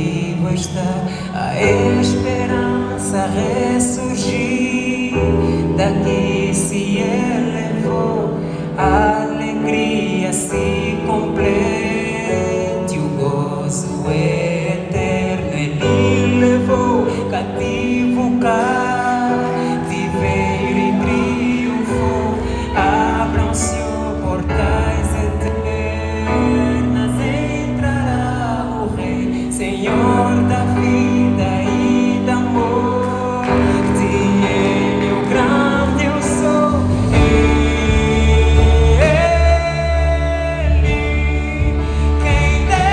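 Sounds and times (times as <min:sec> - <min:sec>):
live gospel band with singing: 0:00.0 - 0:42.9.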